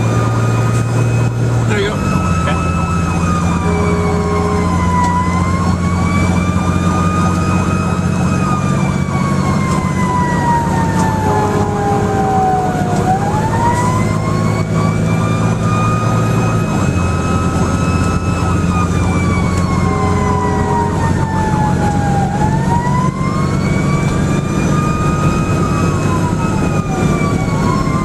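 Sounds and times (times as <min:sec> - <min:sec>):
fire engine siren wailing: 0:00.0 - 0:28.0
truck engine drone: 0:00.0 - 0:28.0.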